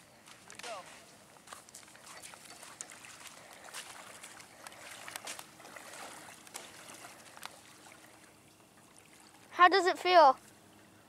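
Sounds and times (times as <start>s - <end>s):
wading splashes in shallow water: 0.0s - 11.0s.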